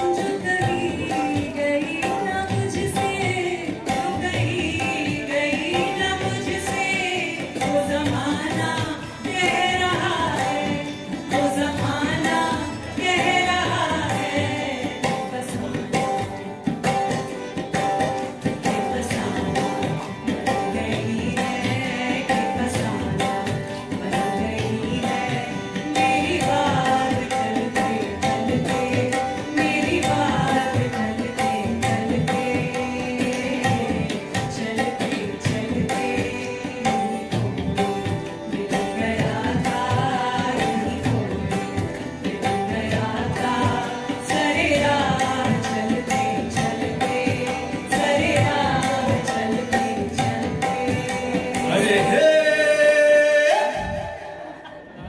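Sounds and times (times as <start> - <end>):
harmonium: 0.0 - 55.0
tabla drumming: 0.0 - 55.0.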